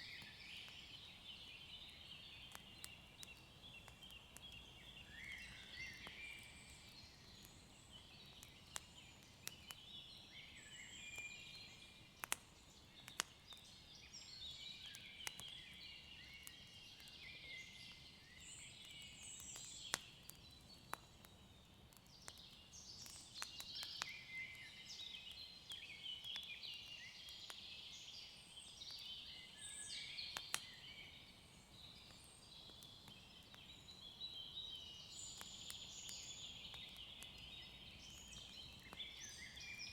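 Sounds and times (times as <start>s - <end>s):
small birds chirping: 0.0s - 39.9s
wood fire popping and crackling: 0.1s - 39.9s.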